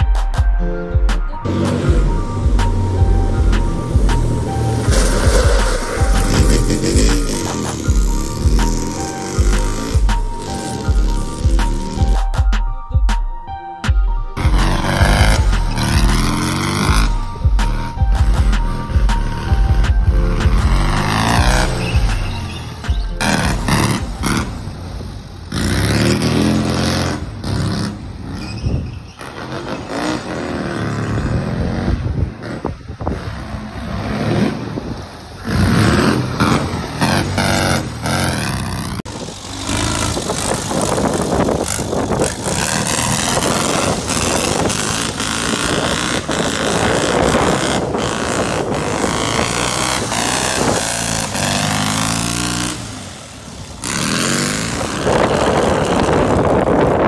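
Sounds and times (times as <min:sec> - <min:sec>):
buggy engine revving: 0:01.4 - 0:12.4, 0:14.4 - 0:57.0.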